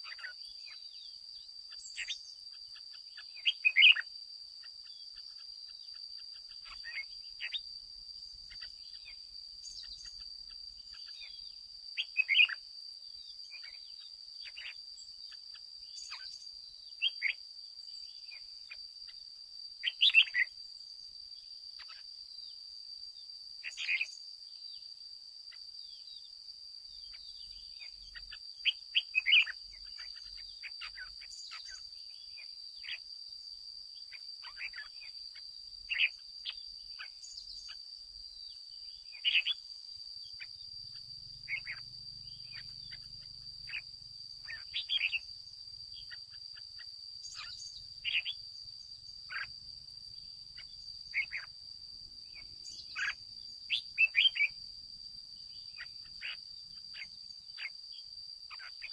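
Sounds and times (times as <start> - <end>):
bird chirping: 0.0 - 58.9.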